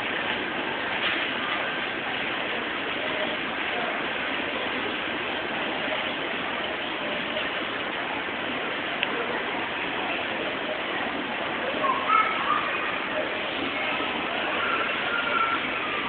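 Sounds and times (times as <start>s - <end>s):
store background hiss and hum: 0.0s - 16.0s.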